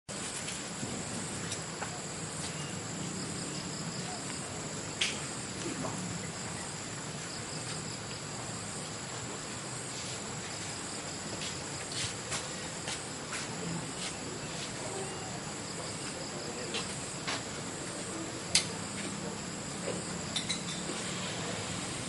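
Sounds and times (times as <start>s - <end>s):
insects singing: 1.2s - 9.9s, 10.5s - 22.0s.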